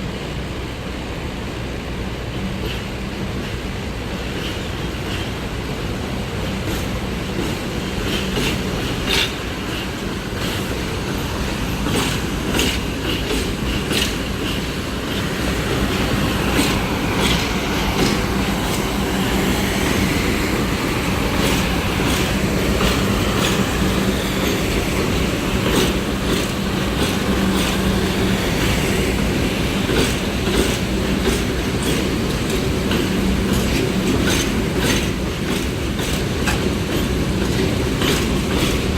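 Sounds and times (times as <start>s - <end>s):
train rumbling on rails: 0.0s - 38.9s
wheels clicking over rail joints: 6.3s - 38.9s.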